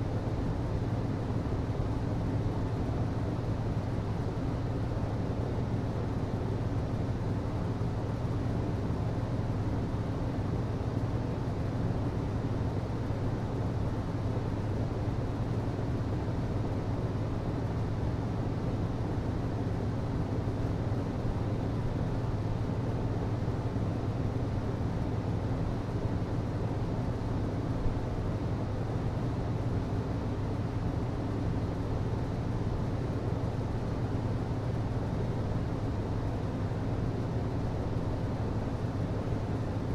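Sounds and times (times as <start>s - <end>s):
ventilation system hum and hiss: 0.0s - 39.9s.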